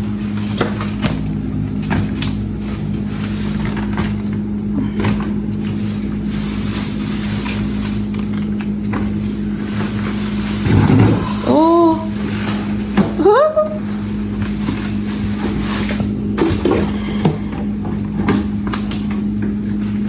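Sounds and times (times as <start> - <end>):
groceries being handled: 0.0 - 20.0
mechanical hum: 0.0 - 20.0.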